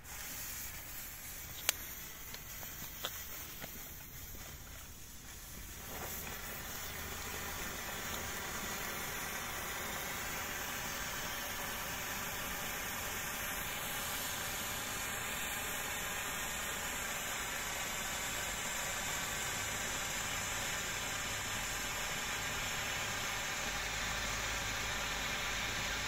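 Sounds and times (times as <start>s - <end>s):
hand flare hissing: 0.0s - 26.0s.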